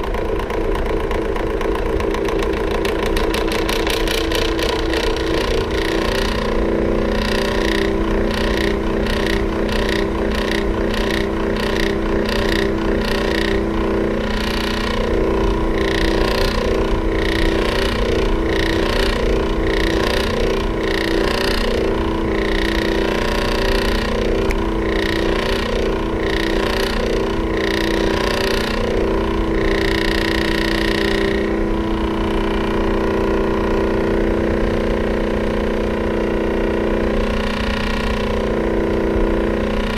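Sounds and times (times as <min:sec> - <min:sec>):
electric fan humming: 0:00.0 - 0:39.9.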